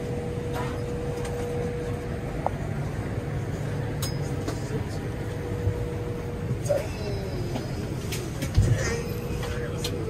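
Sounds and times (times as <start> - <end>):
air-conditioning rumble and hiss: 0.0 - 10.0.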